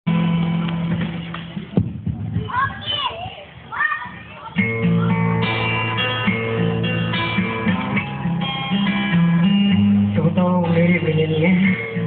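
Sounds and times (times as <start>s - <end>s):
acoustic guitar chords: 0.1s - 2.7s, 4.2s - 12.0s.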